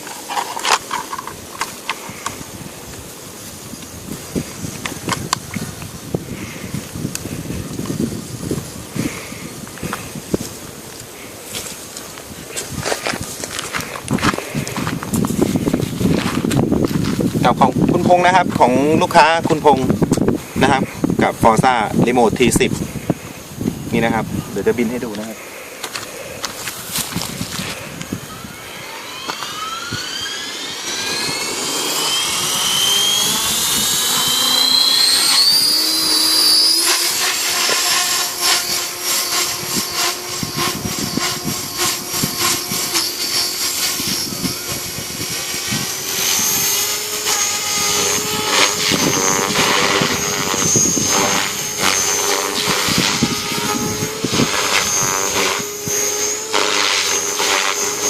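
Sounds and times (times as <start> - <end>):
rc helicopter rotor whine: 0.0 - 58.0.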